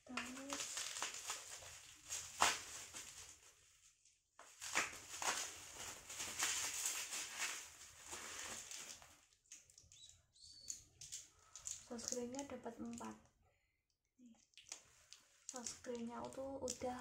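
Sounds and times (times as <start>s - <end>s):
plastic packaging crinkling: 0.0s - 3.8s, 4.4s - 13.2s, 14.3s - 17.0s.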